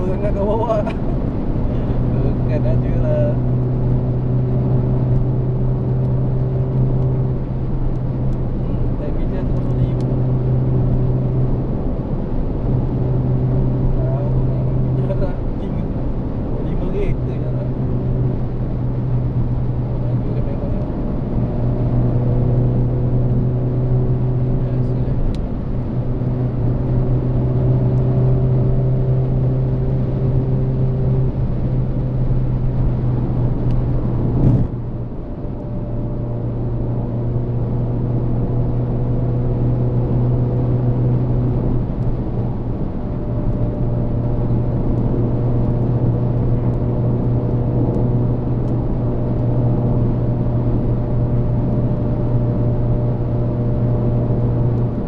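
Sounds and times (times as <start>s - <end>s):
car engine and road drone: 0.0s - 55.0s.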